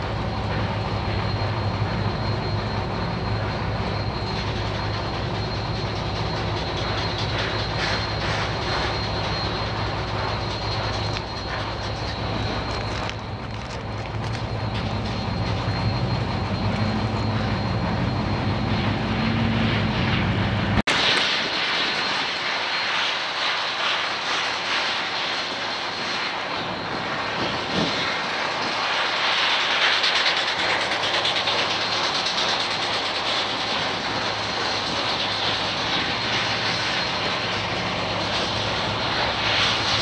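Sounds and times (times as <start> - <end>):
steam locomotive hissing: 0.0 - 19.5, 20.3 - 40.0.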